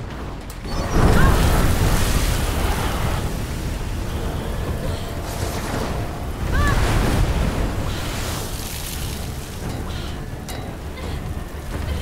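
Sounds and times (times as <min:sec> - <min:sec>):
storm wind and sea spray rushing: 0:00.0 - 0:12.0.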